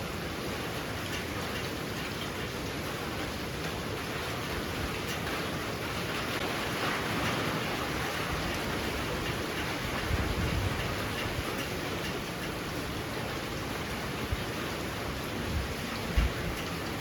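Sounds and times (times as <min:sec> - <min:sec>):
heavy rain pouring: 0:00.0 - 0:17.0
strong wind: 0:00.0 - 0:17.0.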